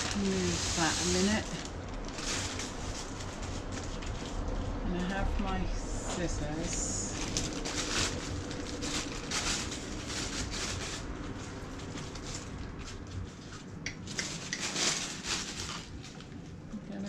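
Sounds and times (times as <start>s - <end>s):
plastic bag rustling: 0.0s - 16.7s.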